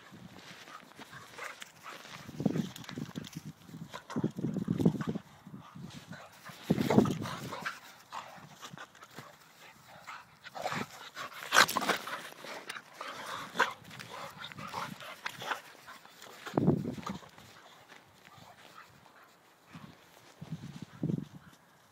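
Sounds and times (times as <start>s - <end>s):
dogs play fighting: 0.4s - 21.6s.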